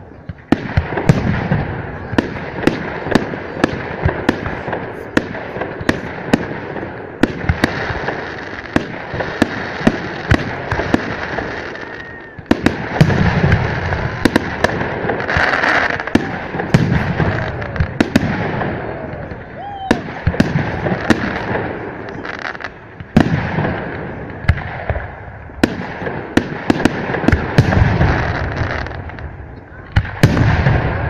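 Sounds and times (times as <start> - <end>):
firework bangs and pops: 0.0 - 31.0
fireworks crackling: 0.0 - 31.0.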